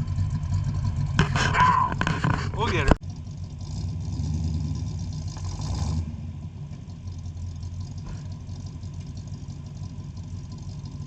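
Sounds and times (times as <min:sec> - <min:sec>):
car engine running under load: 0:00.0 - 0:11.0.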